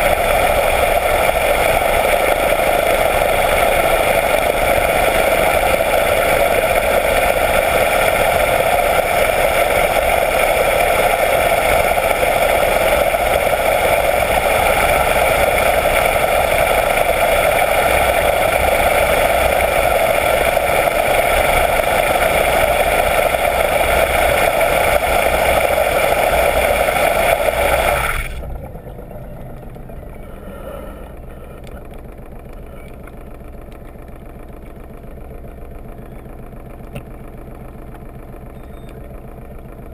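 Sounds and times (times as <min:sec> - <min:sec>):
boat engine underwater: 0:00.0 - 0:39.9
propeller drone underwater: 0:00.0 - 0:39.9.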